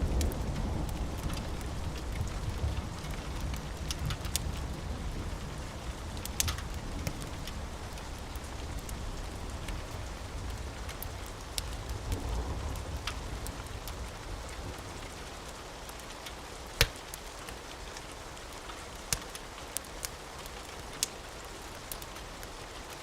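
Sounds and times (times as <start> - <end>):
steady rain: 0.0 - 23.0
wood fire crackling: 0.0 - 23.0.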